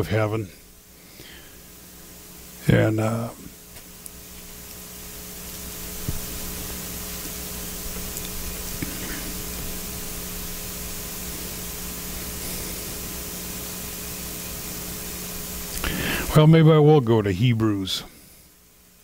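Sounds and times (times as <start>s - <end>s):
low electrical hum: 0.0s - 19.0s
steady hiss: 0.0s - 19.0s.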